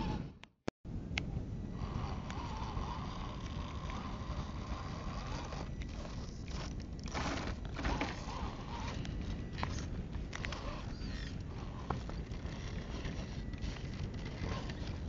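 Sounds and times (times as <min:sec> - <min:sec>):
wind rumble on microphone: 0:00.0 - 0:15.0
electric motor whining: 0:01.7 - 0:15.0.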